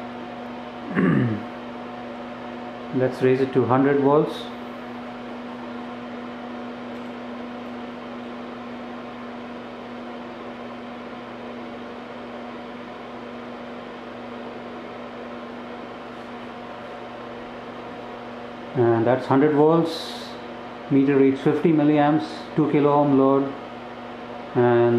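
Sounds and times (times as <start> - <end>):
power supply electrical hum: 0.0 - 24.9.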